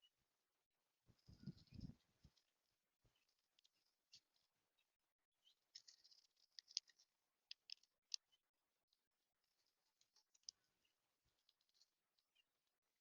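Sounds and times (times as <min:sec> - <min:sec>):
small birds chirping: 0:00.0 - 0:00.2, 0:01.1 - 0:13.0.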